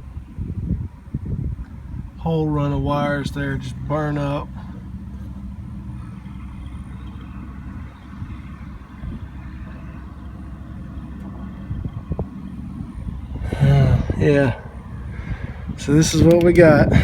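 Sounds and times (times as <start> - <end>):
low mechanical rumble: 0.0 - 17.0
faint hum: 1.2 - 17.0.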